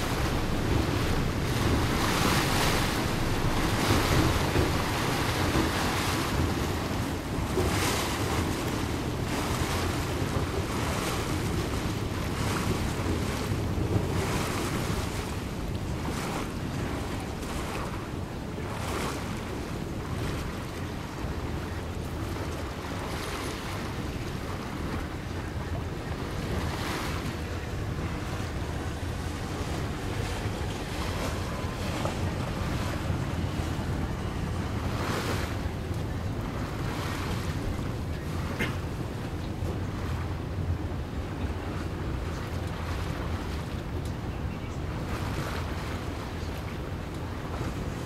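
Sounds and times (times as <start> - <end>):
low engine hum: 0.0 - 48.0
water washing along hull: 0.0 - 48.0
wind buffeting microphone: 0.0 - 48.0.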